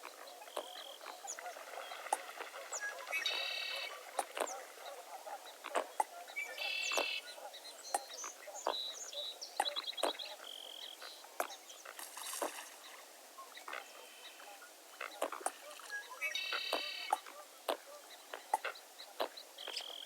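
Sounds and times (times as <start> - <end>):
birds chirping and calling: 0.1 - 11.9, 13.6 - 20.0.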